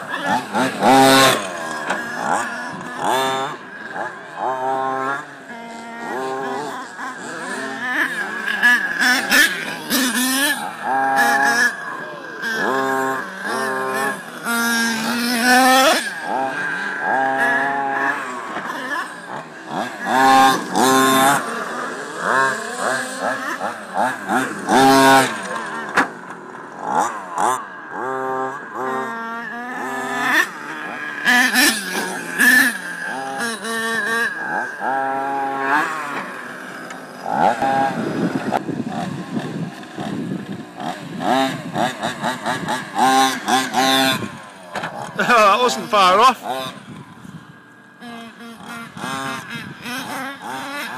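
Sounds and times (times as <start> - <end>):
toy truck engine revving: 0.0 - 50.9.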